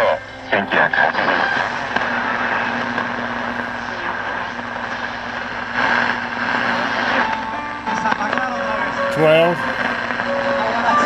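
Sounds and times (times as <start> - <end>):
shortwave radio static: 0.0 - 11.0.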